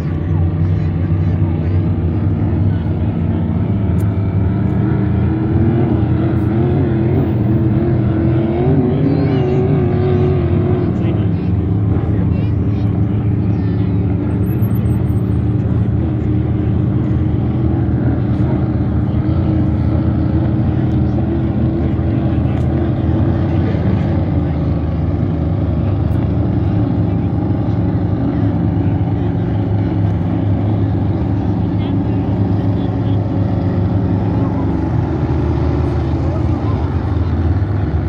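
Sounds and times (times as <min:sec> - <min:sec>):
powerboat engine running: 0:00.0 - 0:38.0.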